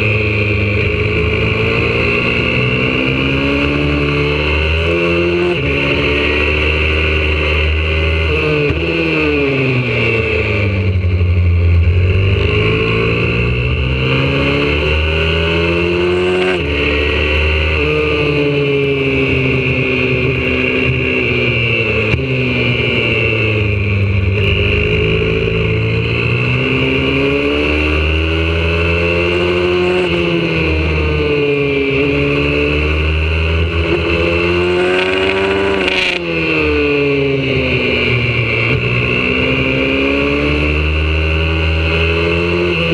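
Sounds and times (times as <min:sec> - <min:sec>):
pit bike engine revving: 0:00.0 - 0:11.0, 0:11.6 - 0:42.9.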